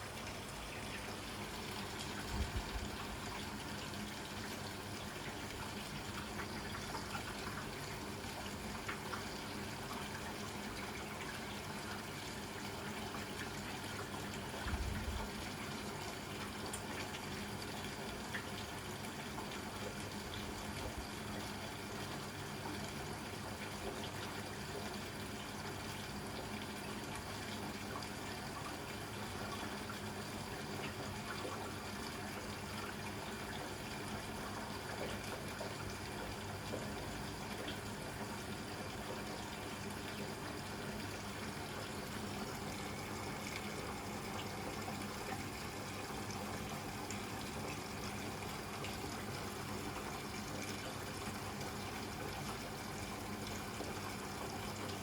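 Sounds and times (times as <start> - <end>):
water pouring into washing machine: 0.0 - 55.0.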